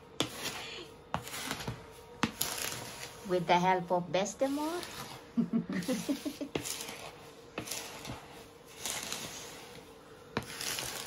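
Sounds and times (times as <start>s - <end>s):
spoon scraping sugar in bowl: 0.0s - 11.0s.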